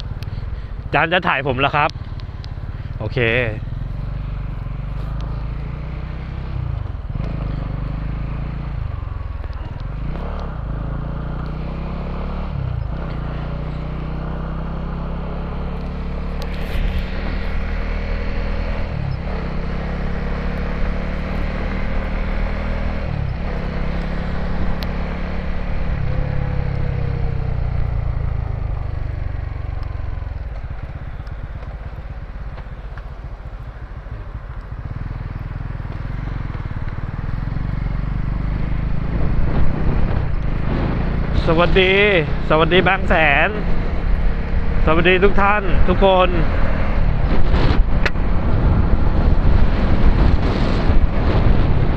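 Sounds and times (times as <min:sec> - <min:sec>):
motorcycle engine revving: 0:01.0 - 0:51.9.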